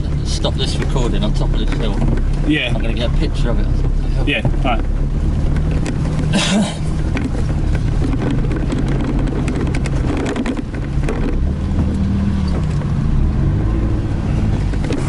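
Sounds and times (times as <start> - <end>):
knocks and rattles of truck bouncing: 0.0 - 15.0
truck engine under load: 0.0 - 15.0.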